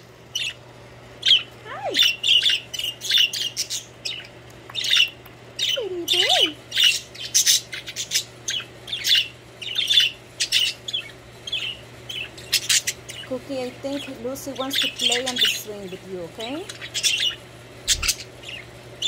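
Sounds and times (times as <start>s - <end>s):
budgerigars chattering and squawking: 0.3s - 0.6s, 1.2s - 18.7s.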